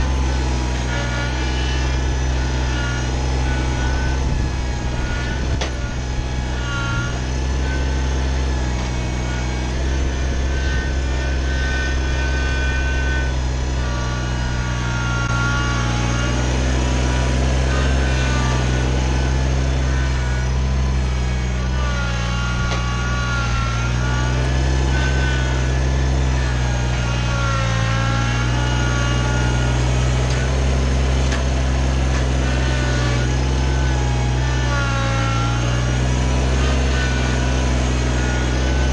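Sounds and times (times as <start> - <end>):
wavering high whine: 0.0 - 34.0
tractor diesel engine running: 0.0 - 38.9.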